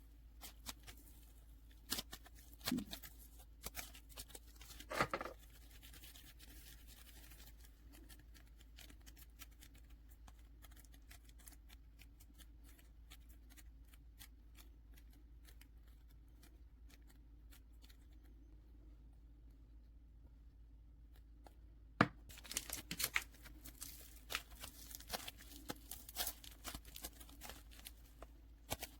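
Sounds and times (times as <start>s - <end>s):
clay clicks and crackles: 0.0s - 28.9s.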